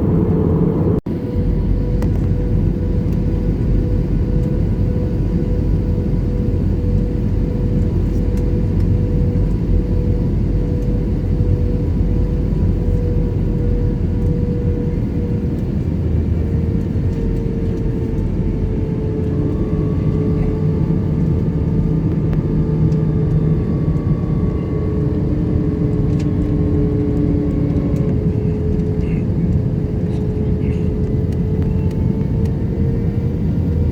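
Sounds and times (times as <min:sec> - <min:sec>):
jet engine cabin drone: 0:00.0 - 0:33.9.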